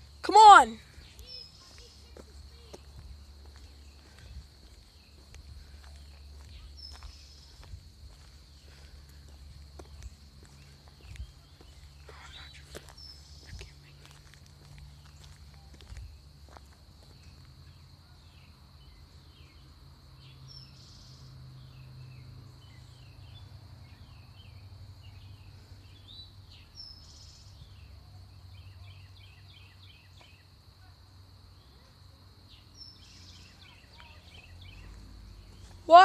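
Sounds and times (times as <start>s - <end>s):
birds chirping: 0.0s - 30.6s, 31.5s - 36.0s.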